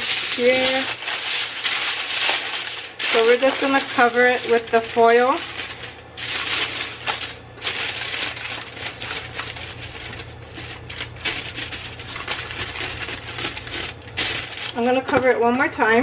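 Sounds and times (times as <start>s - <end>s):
aluminium foil crinkling: 0.0s - 15.4s.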